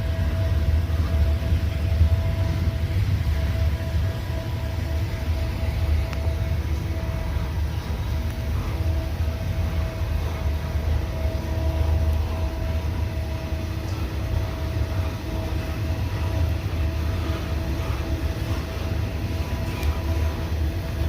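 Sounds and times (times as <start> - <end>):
faint steady whine: 0.0 - 21.0
train wheels rumbling on rail: 0.0 - 21.0.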